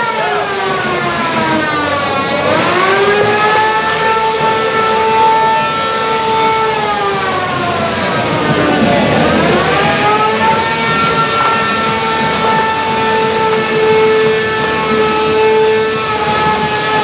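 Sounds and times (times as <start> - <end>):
high-pitched spinning motor whine: 0.0 - 17.0.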